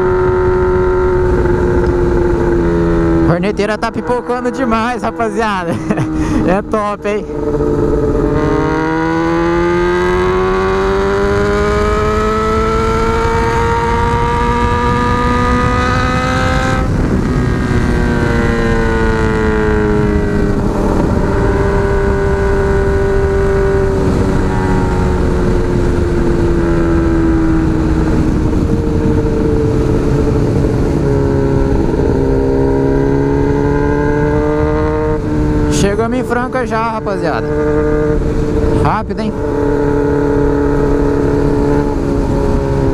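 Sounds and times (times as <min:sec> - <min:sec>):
motorcycle engine revving: 0:00.0 - 0:42.9
wind noise: 0:00.0 - 0:42.9.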